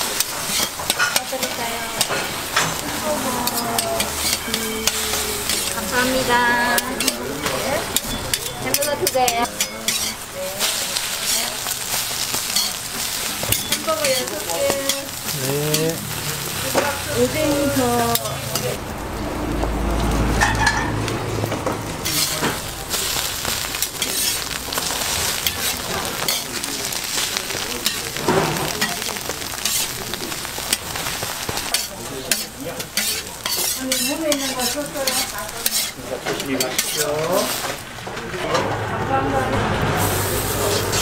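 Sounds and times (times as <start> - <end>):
cooking utensil clicks and scrapes: 0.0 - 2.8, 3.4 - 6.1, 6.7 - 16.0, 18.1 - 18.8, 20.4 - 37.8
food sizzling: 0.0 - 41.0.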